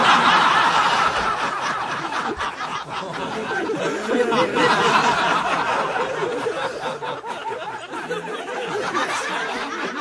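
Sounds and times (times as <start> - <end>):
audience laughing and chattering: 0.0 - 10.0.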